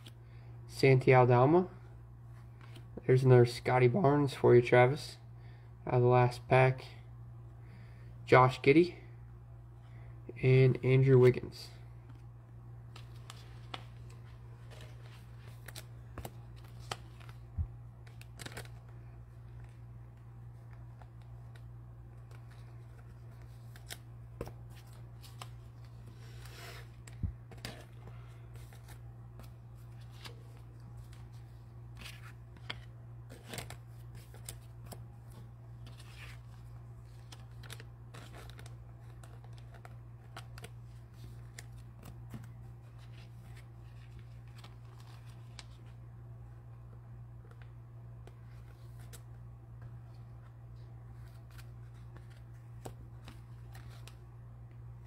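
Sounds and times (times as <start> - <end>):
steady low hum: 0.0 - 55.0
trading cards handled and sleeved: 2.2 - 3.6, 9.8 - 55.0.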